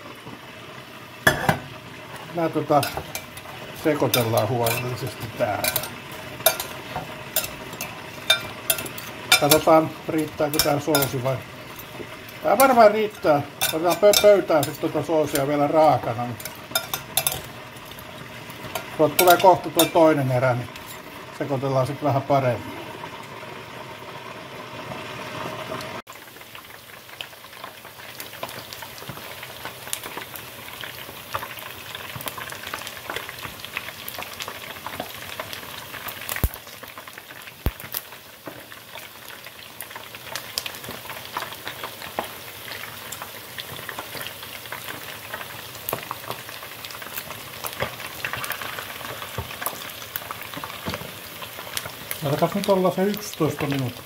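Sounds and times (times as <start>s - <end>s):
wings deep-frying in oil: 0.0s - 54.0s.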